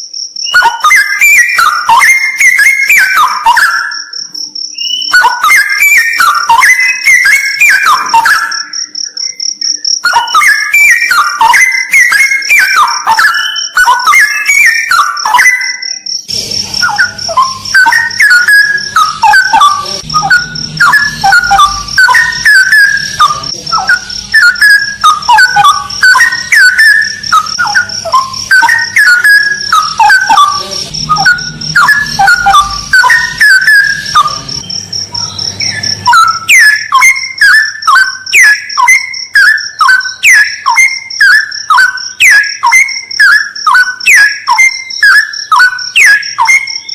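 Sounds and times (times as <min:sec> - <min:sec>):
high-pitched ringing tone: 0:00.0 - 0:46.9
bird singing whistled phrases: 0:00.4 - 0:46.9.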